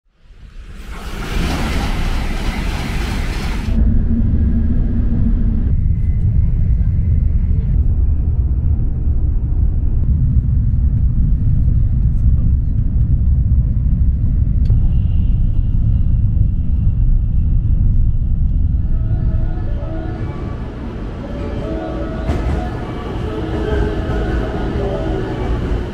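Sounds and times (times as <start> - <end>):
train rumbling at speed: 0.1 - 25.9.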